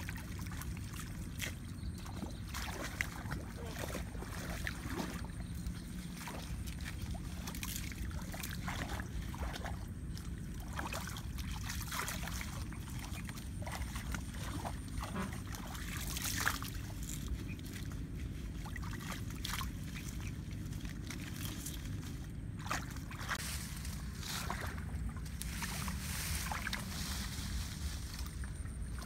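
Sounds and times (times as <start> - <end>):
steady low rumble: 0.0 - 29.0
water sloshing and trickling: 0.0 - 29.0.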